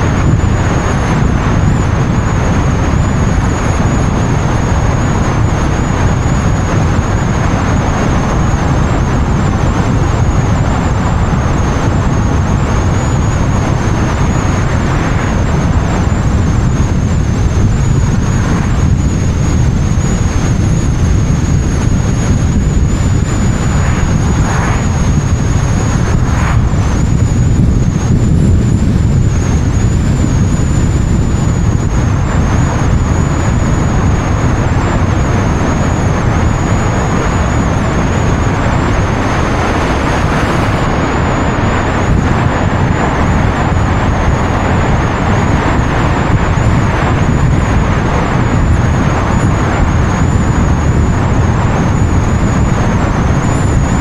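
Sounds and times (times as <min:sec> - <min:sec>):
thin high whine: 0:00.0 - 0:54.0
wind and road noise rushing: 0:00.0 - 0:54.0.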